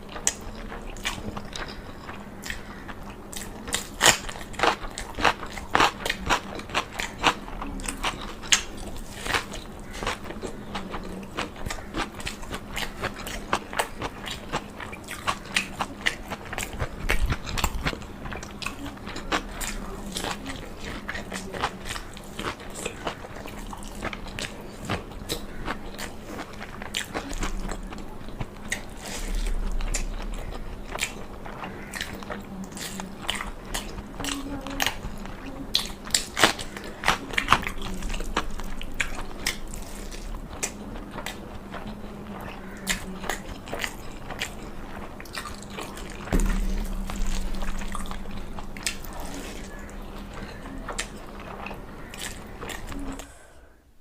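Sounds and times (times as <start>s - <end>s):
chewing and biting: 0.0s - 53.3s
faint steady hum: 0.0s - 54.0s.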